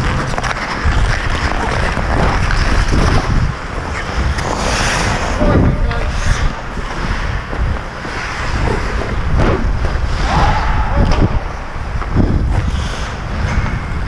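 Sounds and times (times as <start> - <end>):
skate blades scraping ice: 0.0 - 10.3, 11.5 - 14.0
wind rushing over microphone: 0.0 - 14.0.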